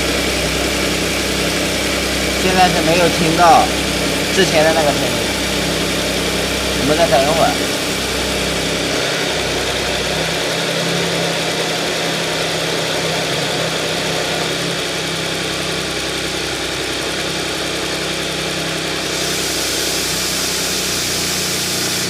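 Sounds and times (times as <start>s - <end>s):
car engine idling: 0.0s - 21.6s.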